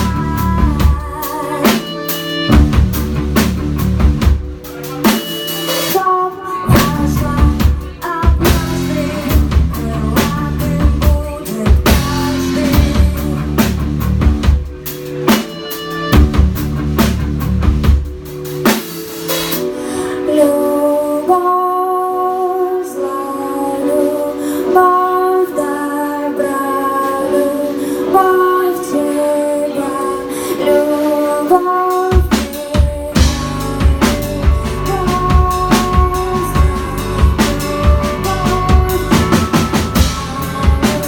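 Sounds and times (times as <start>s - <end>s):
woman singing: 0.0s - 2.9s, 5.0s - 14.0s, 19.9s - 41.0s
bass: 0.0s - 21.8s, 27.3s - 41.0s
drum kit: 0.0s - 41.0s
guitar: 0.0s - 41.0s.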